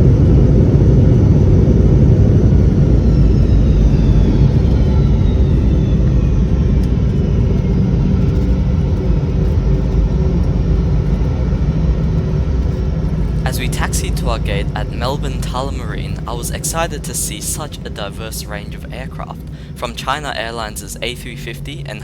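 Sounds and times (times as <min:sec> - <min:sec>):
airplane cabin rumble: 0:00.0 - 0:22.0
jet engines whining down: 0:00.0 - 0:22.0.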